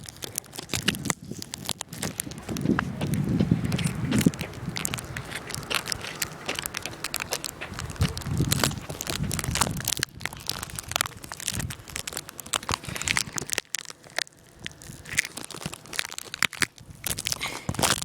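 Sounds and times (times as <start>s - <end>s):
dense crackling and crunching: 0.0s - 18.0s.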